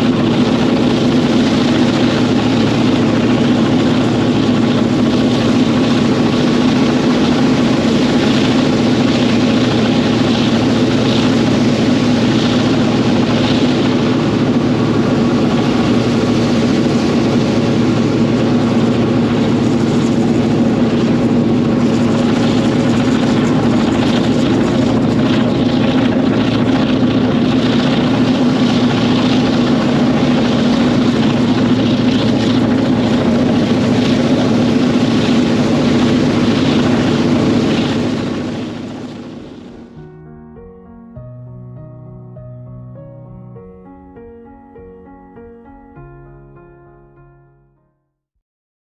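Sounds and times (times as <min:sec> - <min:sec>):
diesel locomotive engine drone: 0:00.0 - 0:40.0.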